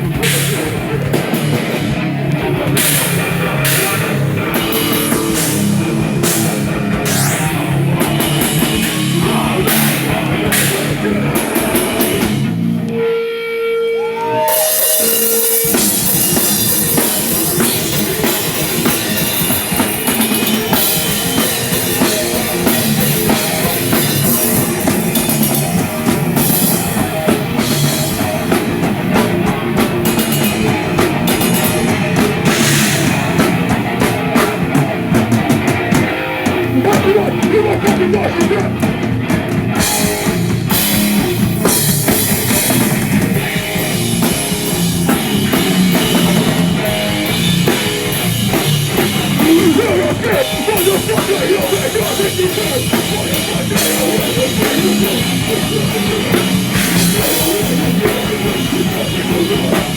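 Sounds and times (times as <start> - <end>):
pounding drum kit: 0.0 - 12.9, 14.4 - 59.9
rock band playing: 0.0 - 59.9.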